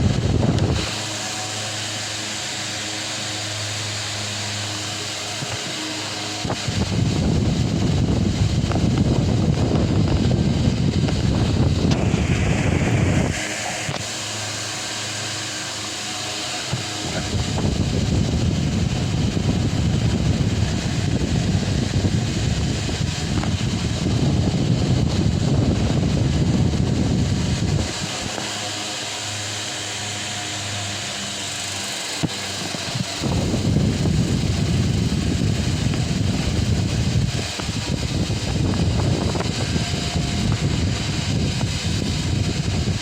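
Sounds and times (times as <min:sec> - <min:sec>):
airflow buffeting microphone: 0:00.0 - 0:43.0
wall fan humming: 0:00.0 - 0:43.0.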